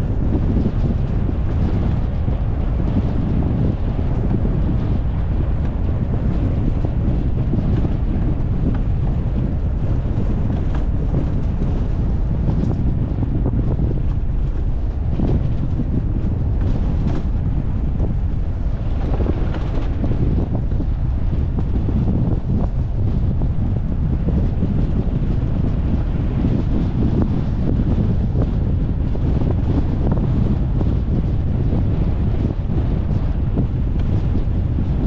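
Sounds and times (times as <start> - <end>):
wind rumbling over microphone: 0.0 - 35.0.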